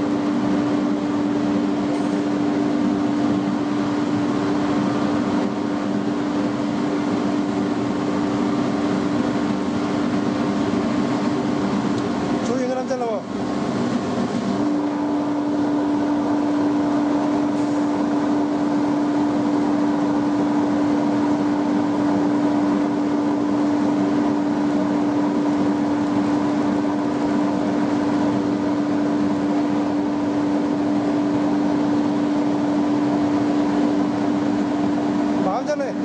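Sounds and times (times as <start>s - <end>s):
machinery humming: 0.0s - 36.0s.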